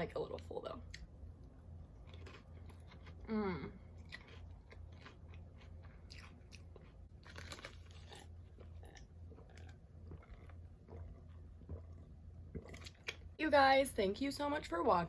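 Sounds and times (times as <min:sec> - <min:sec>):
chewing and crunching chips: 0:00.1 - 0:13.4.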